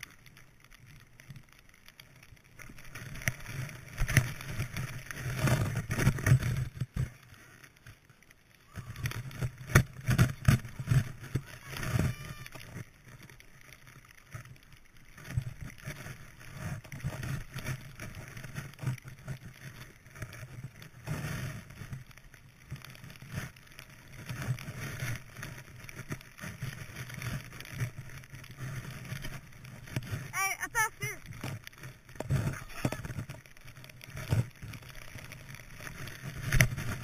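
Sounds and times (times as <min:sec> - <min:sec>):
skis rushing through snow: 0:00.0 - 0:37.0.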